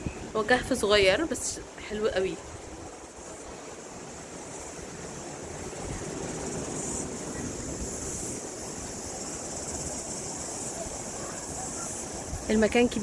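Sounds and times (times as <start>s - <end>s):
high hiss: 0.0s - 13.0s
waves breaking on beach: 0.0s - 13.0s.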